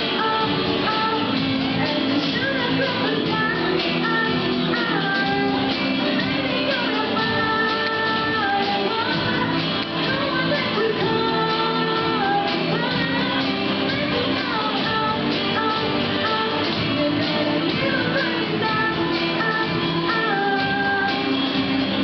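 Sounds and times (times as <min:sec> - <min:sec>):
drum kit beat: 0:00.0 - 0:22.0
electric guitar: 0:00.0 - 0:22.0
woman singing: 0:00.0 - 0:22.0.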